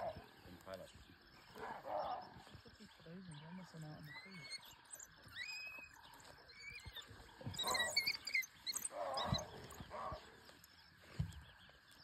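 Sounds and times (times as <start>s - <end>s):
wild dogs squeaking and twittering: 0.0s - 12.0s.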